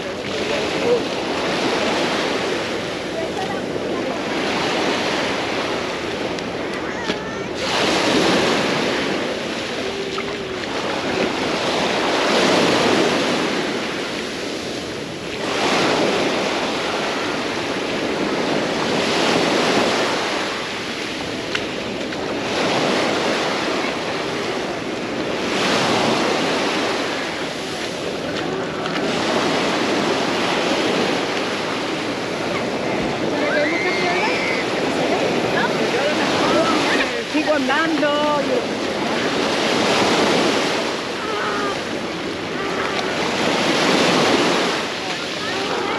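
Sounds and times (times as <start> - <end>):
small sea waves breaking: 0.0 - 45.9.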